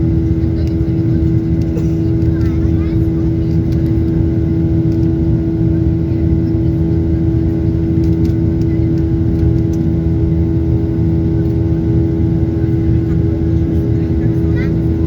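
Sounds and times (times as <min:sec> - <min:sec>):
passenger jet cabin drone: 0:00.0 - 0:15.0.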